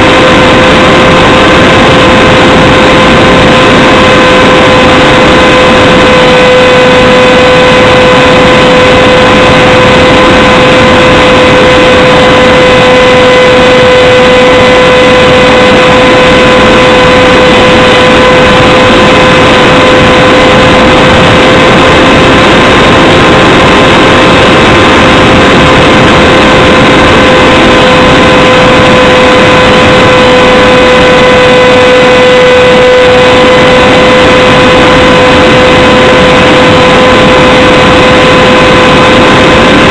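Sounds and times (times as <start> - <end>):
model plane motor and propeller: 0.0 - 39.9
wind noise: 0.0 - 39.9.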